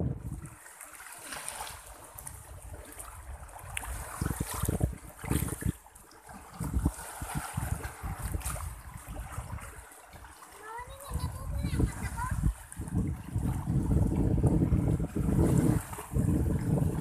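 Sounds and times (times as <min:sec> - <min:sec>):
wind gusting on microphone: 0:00.0 - 0:00.6, 0:02.1 - 0:05.8, 0:06.4 - 0:09.8, 0:10.8 - 0:17.0
seawater lapping at shore: 0:00.0 - 0:17.0.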